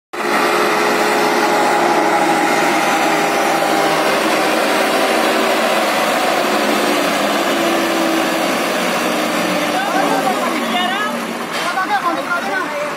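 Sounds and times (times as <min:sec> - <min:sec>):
tractor diesel engine under load: 0:00.1 - 0:12.9.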